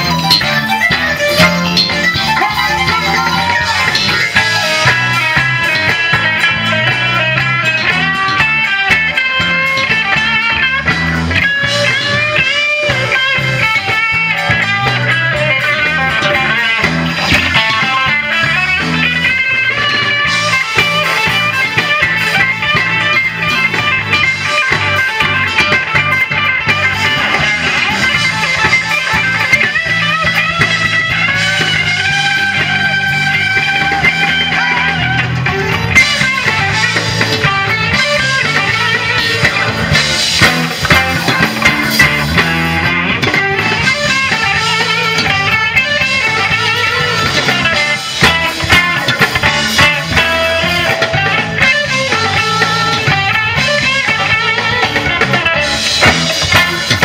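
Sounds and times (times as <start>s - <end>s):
bass line: 0.0s - 57.0s
electric guitar lead lines: 0.0s - 57.0s.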